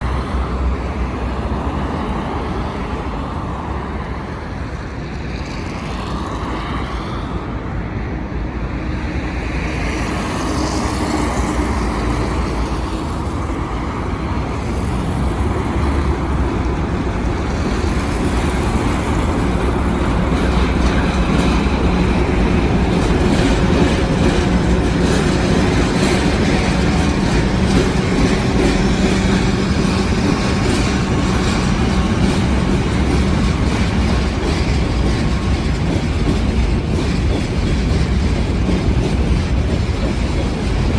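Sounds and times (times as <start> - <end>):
diesel locomotive engine: 0.0 - 40.9
wheels rumbling on rails: 0.0 - 40.9.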